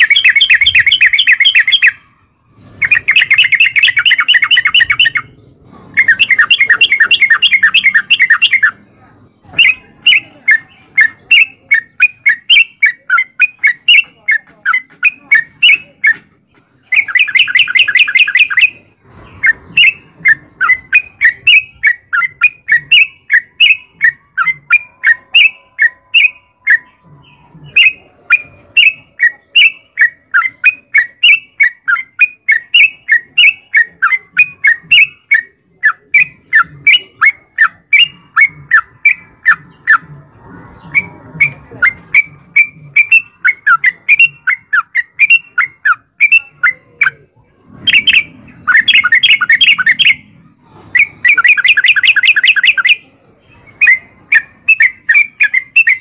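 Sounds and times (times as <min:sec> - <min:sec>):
bulbul chirping: 0:00.0 - 0:08.9, 0:09.5 - 0:50.4, 0:51.0 - 0:56.0.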